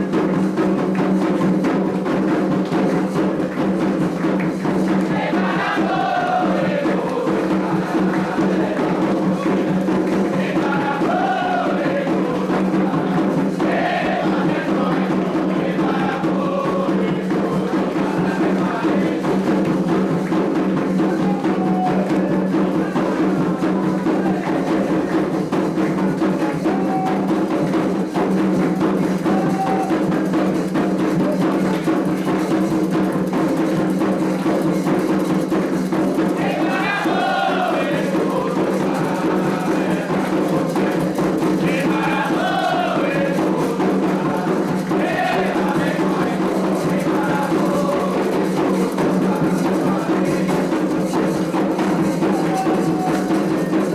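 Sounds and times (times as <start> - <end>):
group singing a chant: 0.0 - 53.9
hand drum percussion: 0.0 - 53.9.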